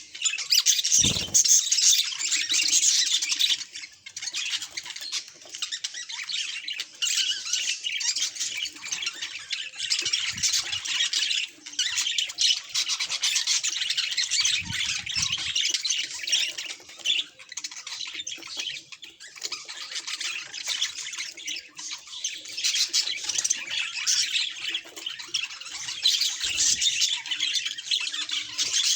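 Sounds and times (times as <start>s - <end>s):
budgerigar chirping and squawking: 0.2s - 28.9s.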